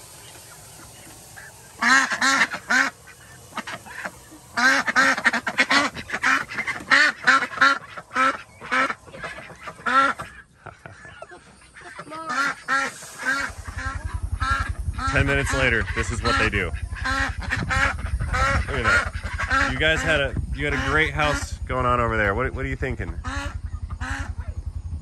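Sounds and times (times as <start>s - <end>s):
ducks quacking loudly: 0.4s - 22.0s, 23.0s - 24.4s.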